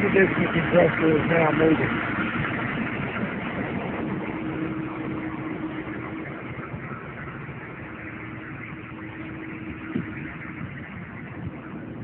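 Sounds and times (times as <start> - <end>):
air-conditioning compressor hum: 0.0 - 11.6
diesel engine idling: 0.0 - 12.0.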